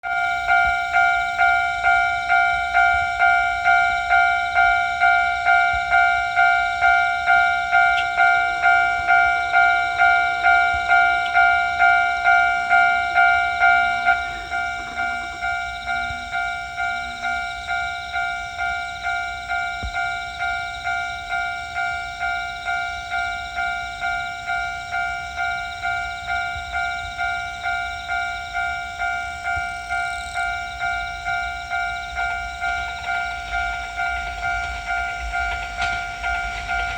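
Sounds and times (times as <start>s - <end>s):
railroad crossing alarm ringing: 0.0s - 36.9s.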